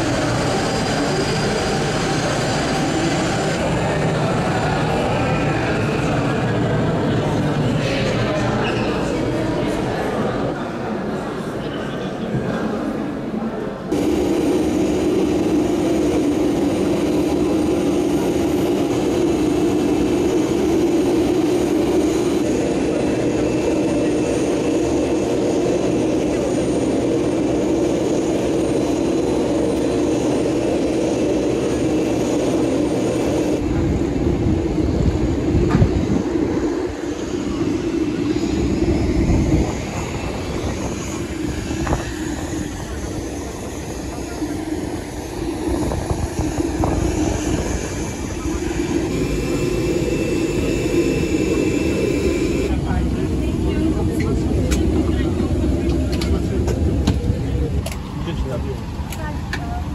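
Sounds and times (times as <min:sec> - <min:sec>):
jet engine drone: 0:00.0 - 0:12.8, 0:13.8 - 0:59.9.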